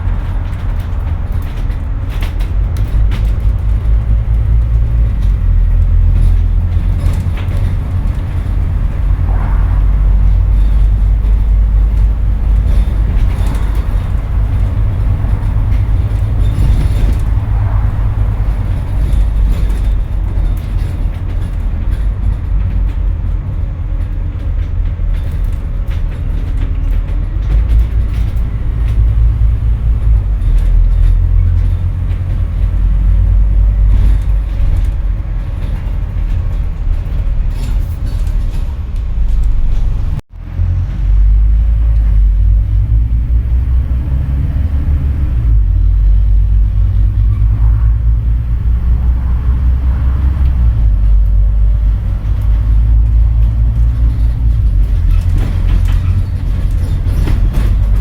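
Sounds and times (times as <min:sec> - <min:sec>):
bus body rattles: 0:00.0 - 0:58.0
bus diesel engine rumbling: 0:00.0 - 0:58.0.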